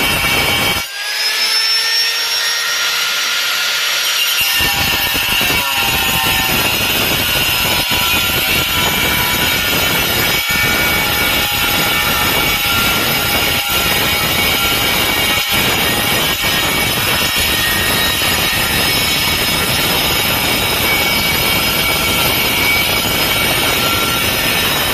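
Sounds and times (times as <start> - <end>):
grinder cutting tile screech: 0.0 - 24.9
grinder motor whine: 0.0 - 24.9.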